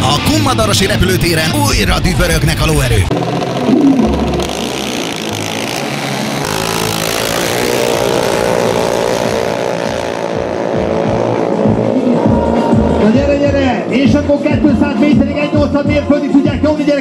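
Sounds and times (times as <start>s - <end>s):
dragster engine accelerating: 0.0s - 15.4s.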